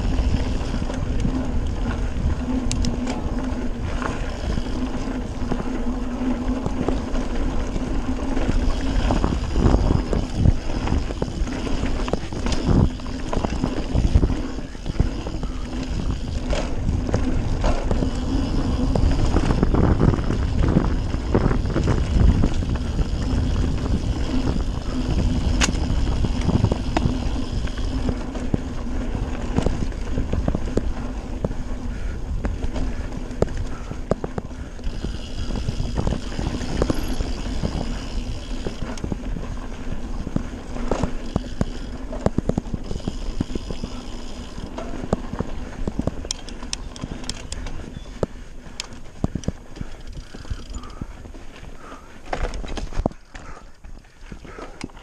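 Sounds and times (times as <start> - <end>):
bike clattering over bumps: 0.0 - 55.0
bike tyres rumbling on dirt: 0.0 - 55.0.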